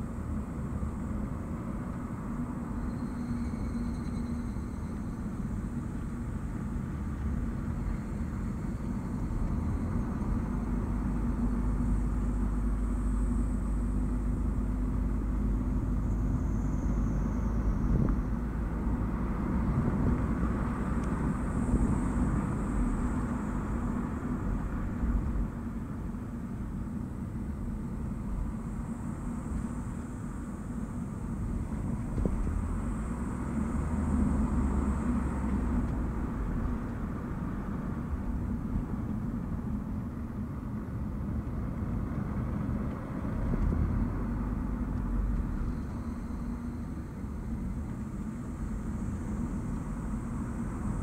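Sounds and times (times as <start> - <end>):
road and tyre noise: 0.0 - 51.0.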